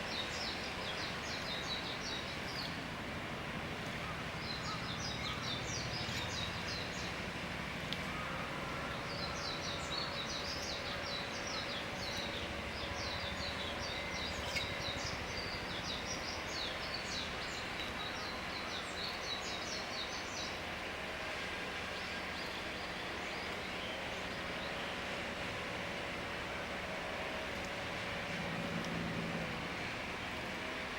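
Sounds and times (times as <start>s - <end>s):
outdoor background noise: 0.0s - 30.9s.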